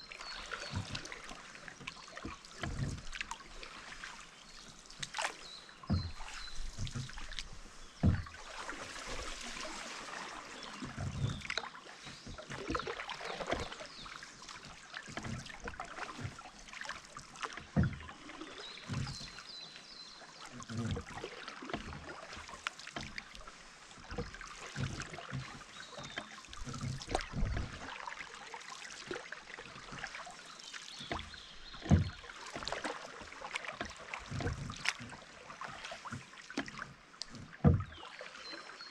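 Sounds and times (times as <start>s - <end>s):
paddle dipping in water: 0.0s - 38.9s
water splashing and dripping: 0.0s - 38.9s.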